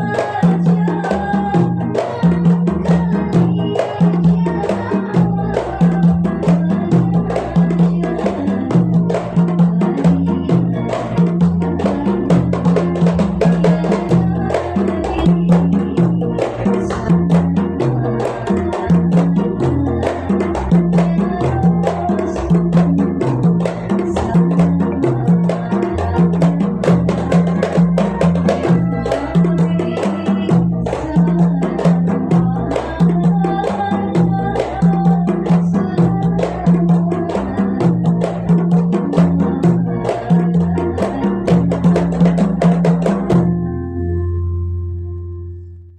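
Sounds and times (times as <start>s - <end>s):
percussion beat: 0.0s - 43.7s
pulsing bass line: 0.0s - 45.9s.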